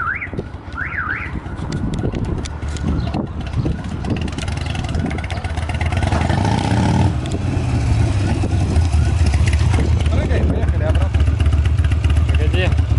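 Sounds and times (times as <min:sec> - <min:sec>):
motorcycle engine rumbling: 0:00.0 - 0:12.9.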